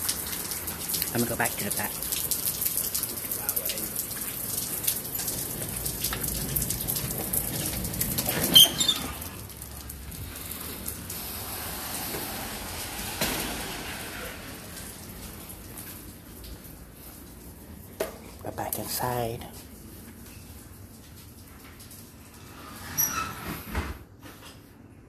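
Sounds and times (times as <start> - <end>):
steady rain falling: 0.0 - 23.4.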